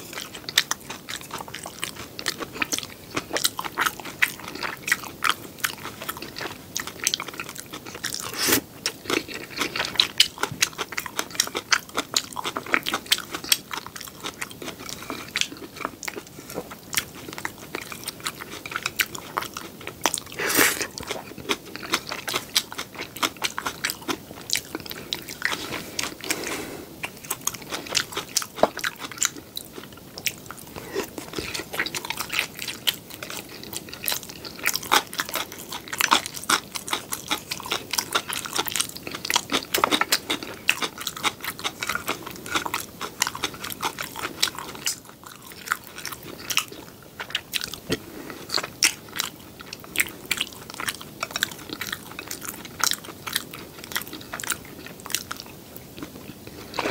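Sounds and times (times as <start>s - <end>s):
crunchy chewing: 0.0s - 56.9s.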